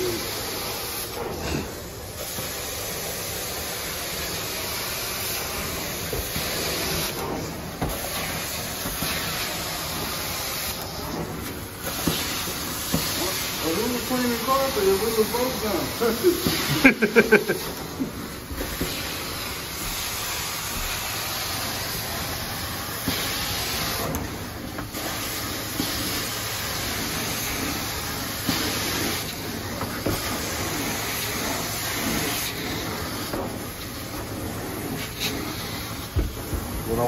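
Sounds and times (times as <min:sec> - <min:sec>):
carpet cleaner spray and suction hiss: 0:00.0 - 0:37.0.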